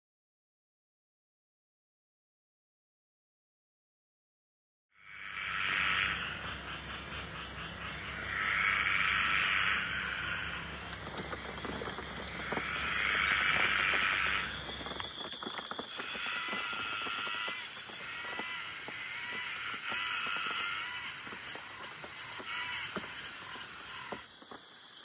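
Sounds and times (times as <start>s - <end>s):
frogs calling: 5.0s - 25.0s.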